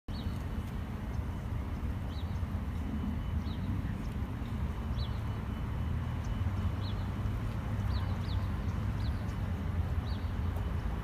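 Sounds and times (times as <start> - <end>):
steady low rumble: 0.1 - 11.0.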